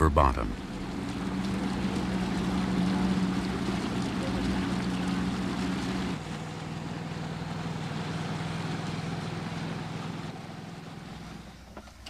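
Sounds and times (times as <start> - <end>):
water noise: 0.0 - 11.8
boat engine humming: 0.0 - 12.0
wind: 0.0 - 12.0.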